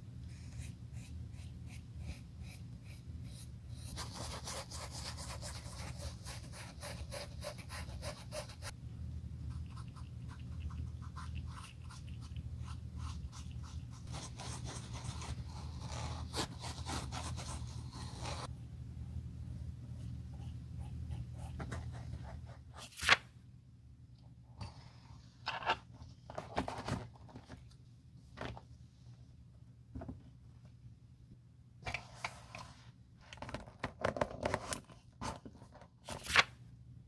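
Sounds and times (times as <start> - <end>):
steady low hum: 0.0 - 33.5.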